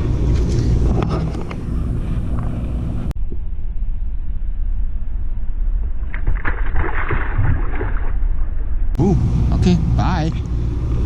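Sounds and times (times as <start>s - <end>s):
boat engine rumble: 0.0s - 6.2s, 8.2s - 11.0s.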